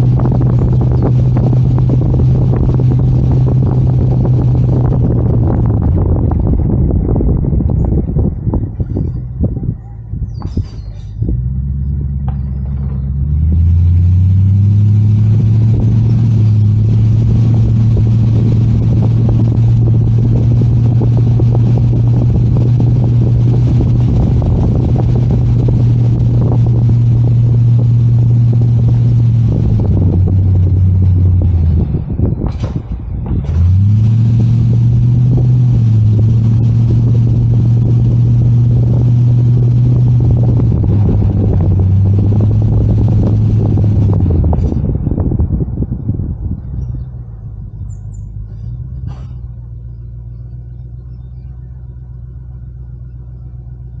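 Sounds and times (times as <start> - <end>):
vehicle engine driving: 0.0 - 54.0.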